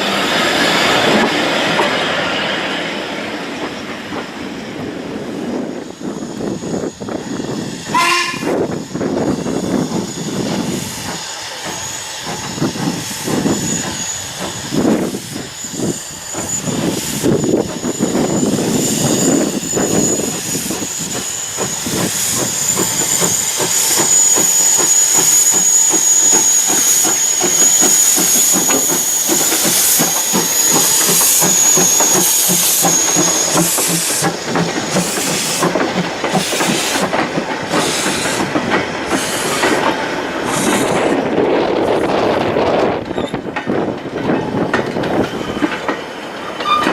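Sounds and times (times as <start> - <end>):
passing train rattling: 0.0 - 46.9
steam locomotive chuffing: 0.0 - 46.9
steam hissing: 4.4 - 46.6.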